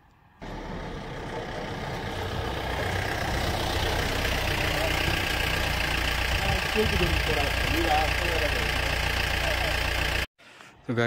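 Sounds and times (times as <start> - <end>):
vehicle engine running: 0.4 - 10.3.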